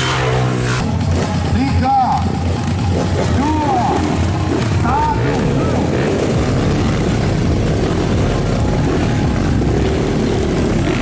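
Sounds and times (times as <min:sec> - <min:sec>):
motorcycle engines idling and revving: 0:00.0 - 0:11.0.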